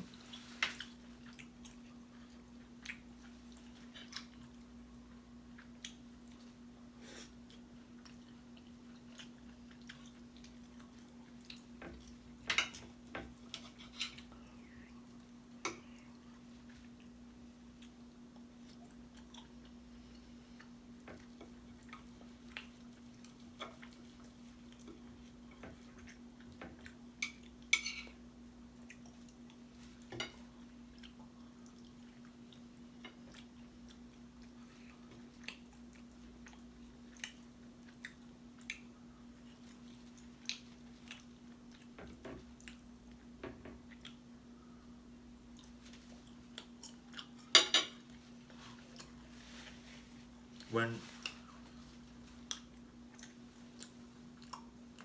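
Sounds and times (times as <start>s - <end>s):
low electrical hum: 0.0s - 55.0s
person chewing food: 0.0s - 55.0s.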